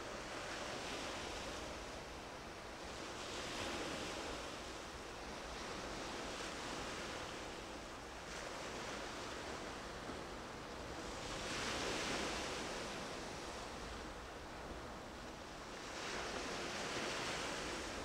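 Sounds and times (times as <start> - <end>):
sea waves: 0.0 - 18.0.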